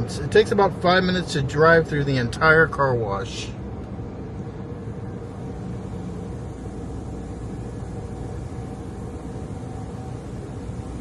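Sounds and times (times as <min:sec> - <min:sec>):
car wash mechanical rumble: 0:00.0 - 0:11.0
faint even hum: 0:00.0 - 0:11.0.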